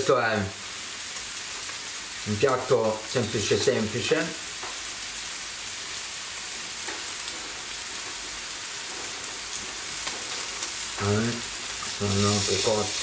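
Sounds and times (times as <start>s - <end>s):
burgers cooking on a grill pan: 0.0s - 13.0s
fries sizzling in hot oil: 0.0s - 13.0s.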